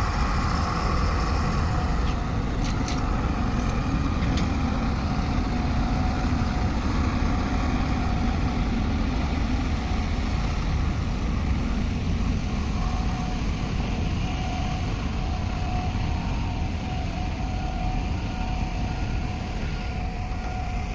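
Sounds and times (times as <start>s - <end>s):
diesel engine rumbling: 0.0s - 20.9s
faint steady whine: 0.0s - 20.9s.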